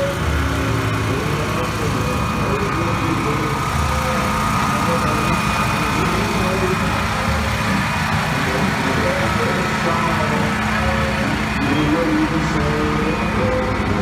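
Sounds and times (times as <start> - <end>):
crowd voices: 0.0 - 14.0
vehicle engines rumbling: 0.0 - 14.0.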